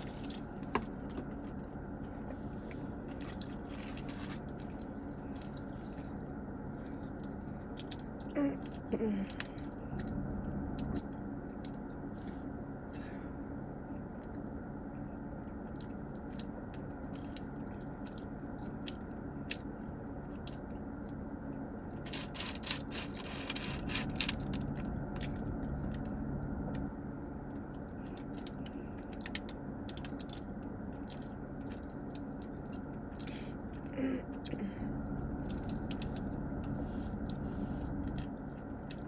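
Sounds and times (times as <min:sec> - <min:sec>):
chewing and biting food: 0:00.0 - 0:12.1, 0:15.4 - 0:26.9, 0:27.5 - 0:33.8, 0:35.2 - 0:39.0
low hum in car cabin: 0:00.0 - 0:39.0.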